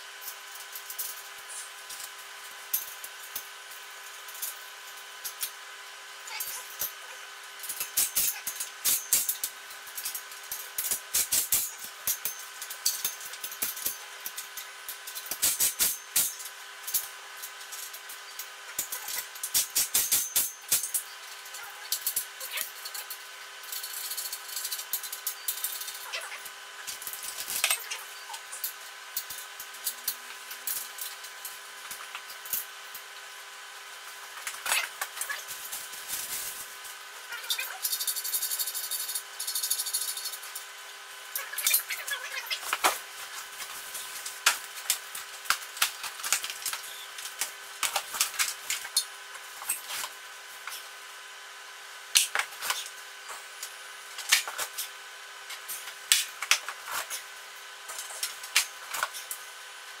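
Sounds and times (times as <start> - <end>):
tools and metal parts clinking: 0.2 - 5.6, 7.6 - 33.2, 34.2 - 40.7, 41.4 - 50.9, 55.5 - 57.2, 57.9 - 59.4.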